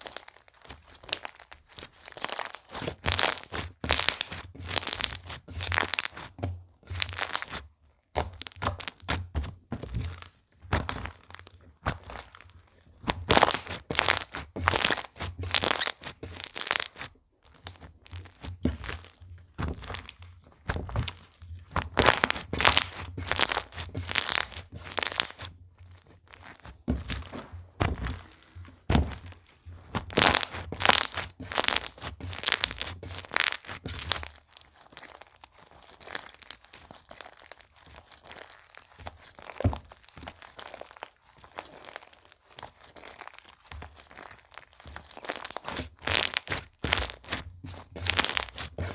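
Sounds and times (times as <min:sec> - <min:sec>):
slime crackling and popping: 0:00.0 - 0:48.9.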